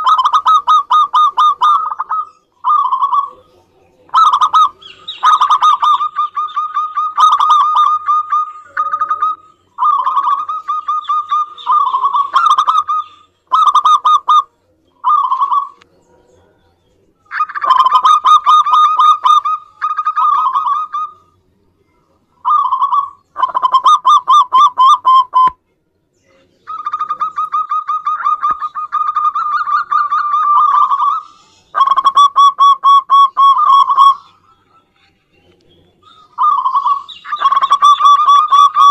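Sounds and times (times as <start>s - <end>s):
doves cooing in trills: 0.0s - 21.4s, 22.1s - 25.6s, 26.3s - 38.9s.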